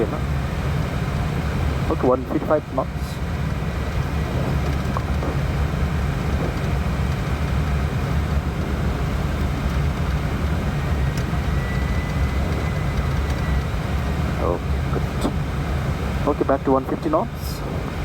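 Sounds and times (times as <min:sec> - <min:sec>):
airliner airflow and engine rumble: 0:00.0 - 0:18.0.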